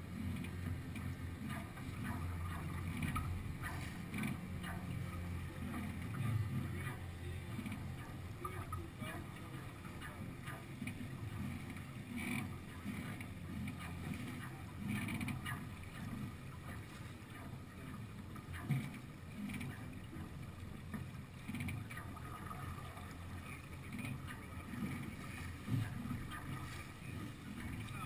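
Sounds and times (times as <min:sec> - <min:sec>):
water rushing along hull: 0:00.0 - 0:28.0
water slapping against bow: 0:00.0 - 0:28.0.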